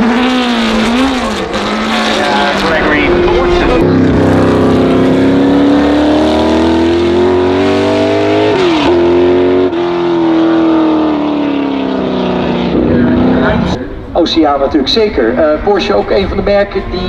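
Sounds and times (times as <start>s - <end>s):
racing car engine running hard: 0.0s - 14.1s.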